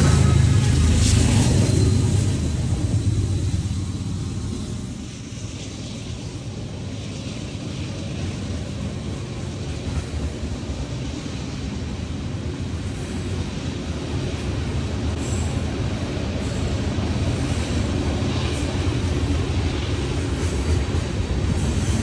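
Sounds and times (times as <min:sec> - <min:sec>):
diesel locomotive engine: 0:00.0 - 0:22.0
freight cars rumbling on rails: 0:00.0 - 0:22.0.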